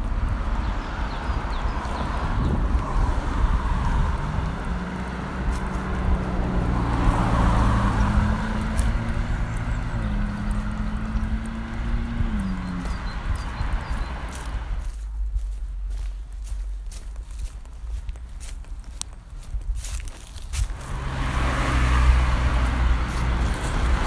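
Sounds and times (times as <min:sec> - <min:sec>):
traffic rumble: 0:00.0 - 0:24.0
vehicle engine hum: 0:00.0 - 0:24.0.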